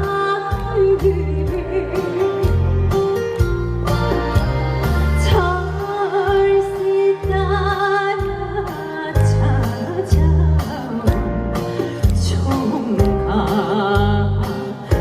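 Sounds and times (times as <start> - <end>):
woman singing: 0.0 - 2.9, 5.0 - 15.0
backing track with bass and drums: 0.0 - 15.0.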